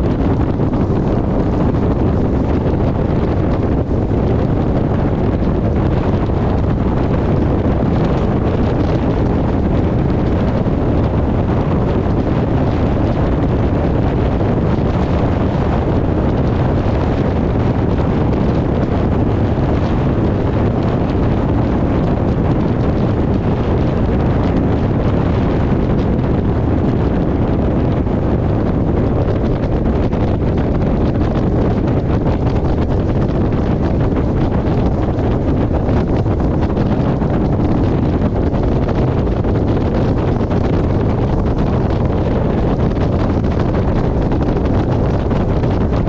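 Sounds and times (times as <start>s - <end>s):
loud low rushing noise: 0.0s - 46.0s.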